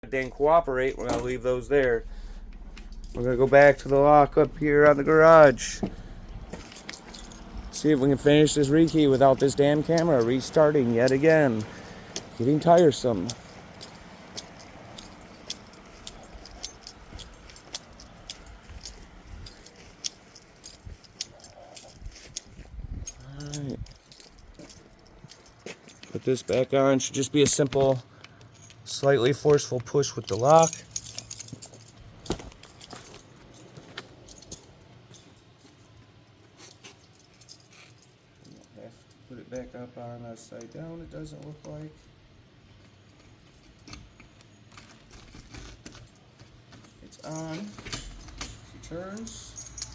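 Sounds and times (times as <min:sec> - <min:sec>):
keys and lock parts clinking: 0:00.1 - 0:39.7, 0:40.6 - 0:41.9, 0:42.7 - 0:49.9.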